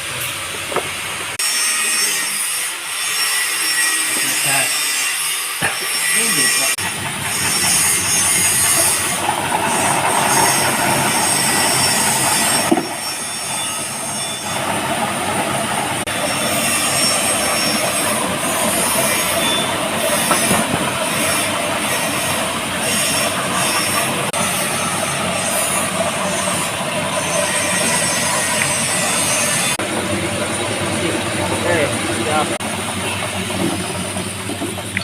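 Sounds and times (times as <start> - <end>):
washing machine harsh scraping: 0.0 - 35.0.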